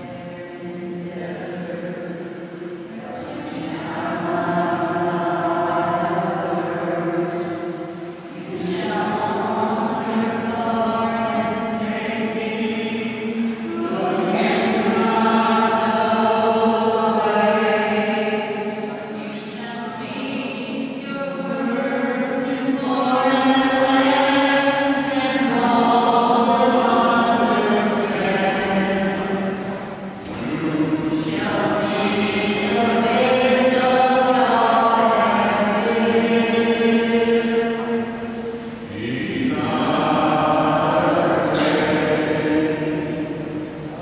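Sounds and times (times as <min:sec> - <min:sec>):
group singing a slow hymn: 0:00.0 - 0:44.0.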